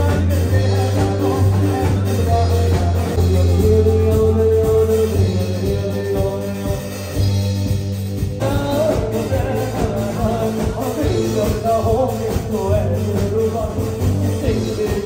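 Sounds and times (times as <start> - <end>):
live rock-pop band playing: 0.0 - 15.0
man singing: 0.0 - 15.0.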